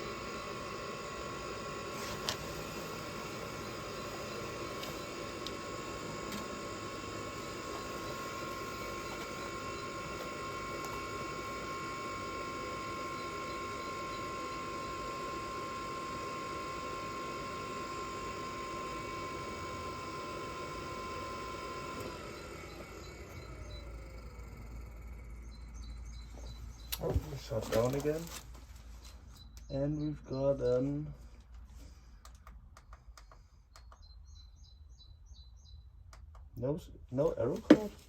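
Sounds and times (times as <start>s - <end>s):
heater blower fan whining: 0.0s - 38.0s.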